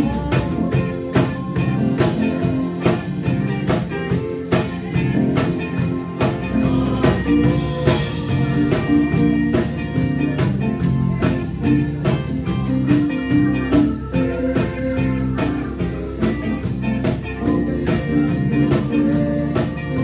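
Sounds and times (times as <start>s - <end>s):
drum kit steady beat: 0.0s - 20.0s
electric bass guitar: 0.0s - 20.0s
electric guitar: 0.0s - 20.0s.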